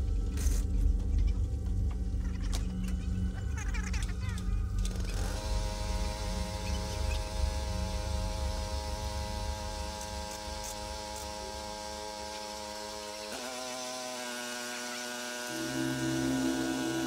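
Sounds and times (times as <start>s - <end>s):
small motor electric hum: 0.0s - 17.0s.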